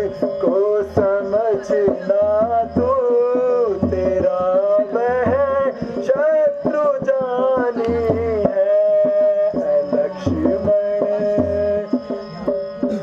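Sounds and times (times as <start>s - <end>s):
person singing: 0.0s - 12.3s
hand drum strokes and thumps: 0.0s - 13.0s.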